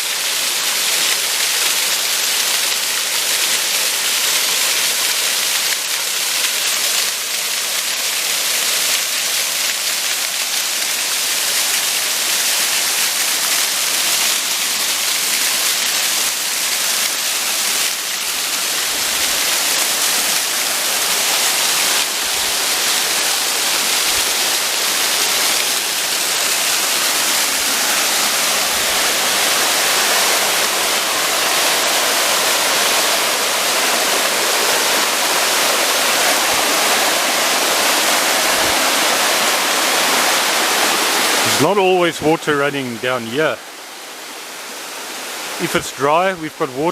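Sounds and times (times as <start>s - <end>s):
stream rushing water: 0.0s - 46.9s.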